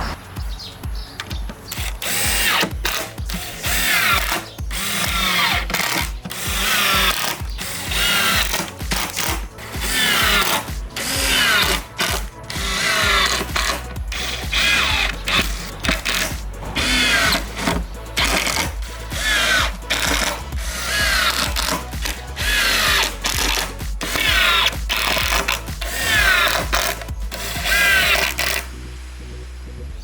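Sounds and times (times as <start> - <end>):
power drill into wood: 1.3 - 28.8.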